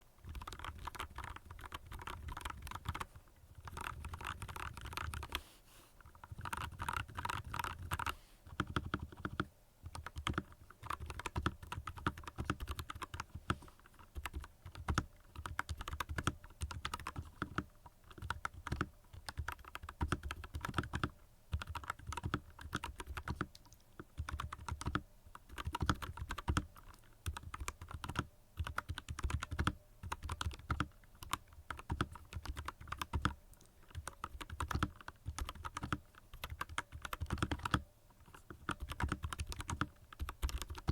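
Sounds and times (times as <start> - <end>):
typing on mechanical keyboard: 0.2 - 5.4, 6.1 - 40.9.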